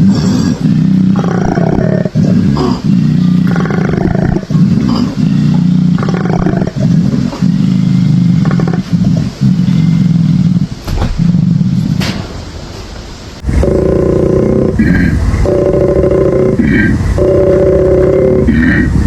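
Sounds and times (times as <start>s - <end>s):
animal's deep pulsing call: 0.0s - 12.1s, 13.4s - 19.0s.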